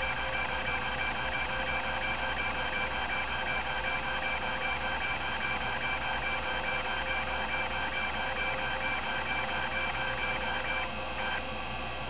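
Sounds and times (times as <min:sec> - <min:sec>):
hard drive seeking whine: 0:00.0 - 0:11.5.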